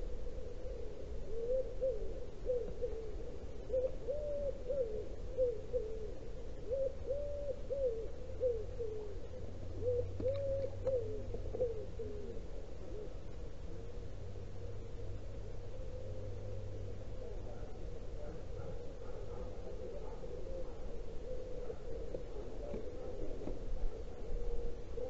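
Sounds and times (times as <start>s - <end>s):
pigeon cooing: 0.0s - 14.0s, 14.6s - 25.0s
low steady rumble: 0.0s - 25.0s.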